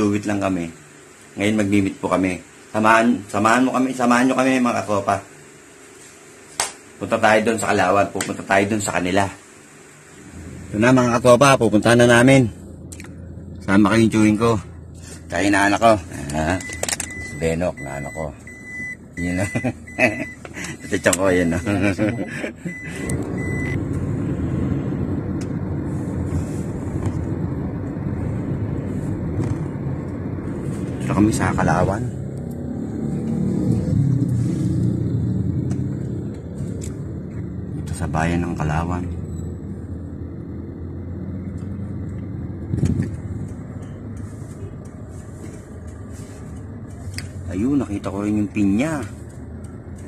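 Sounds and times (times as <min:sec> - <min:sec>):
vehicle engine and road noise: 0:00.0 - 0:50.0.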